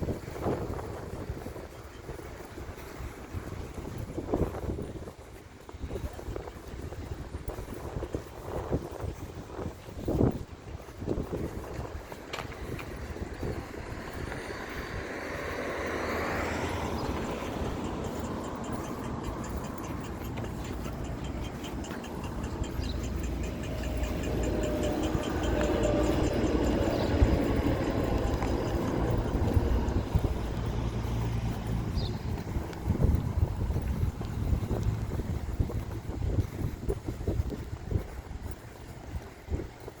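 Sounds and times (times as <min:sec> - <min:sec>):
vehicles passing: 0:00.0 - 0:40.0
wind rumbling on microphone: 0:00.0 - 0:40.0.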